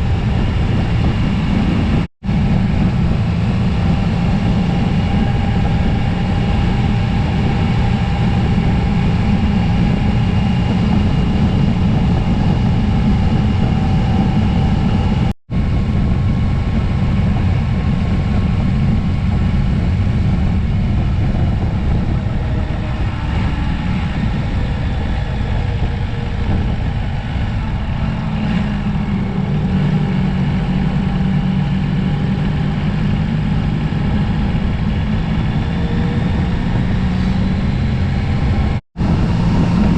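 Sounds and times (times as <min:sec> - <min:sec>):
motorcycle engine: 0:00.0 - 0:39.9
wind rushing: 0:00.0 - 0:39.9.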